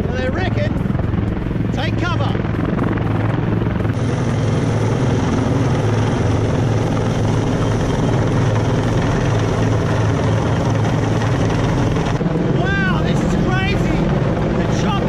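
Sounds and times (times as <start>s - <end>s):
helicopter rotor beating: 0.0s - 15.0s.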